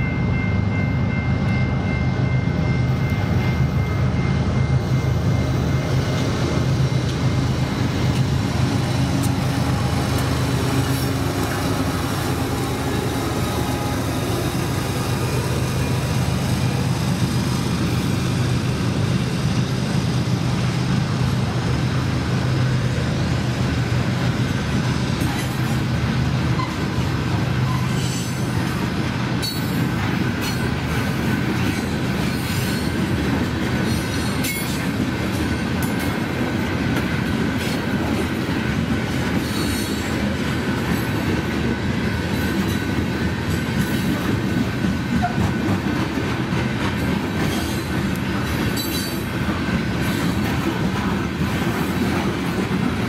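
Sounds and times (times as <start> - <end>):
low locomotive hum: 0.0 - 53.0.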